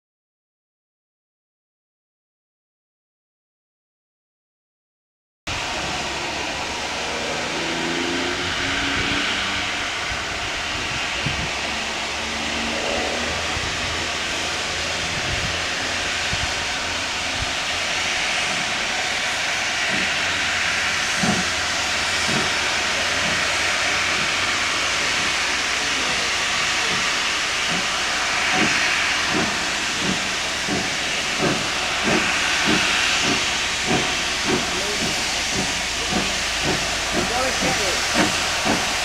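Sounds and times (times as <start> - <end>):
steam hissing: 5.5 - 39.0.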